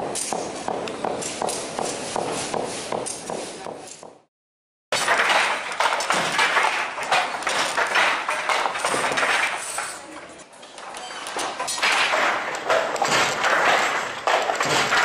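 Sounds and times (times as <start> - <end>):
handloom weaving clatter: 0.0 - 4.1, 5.0 - 15.0.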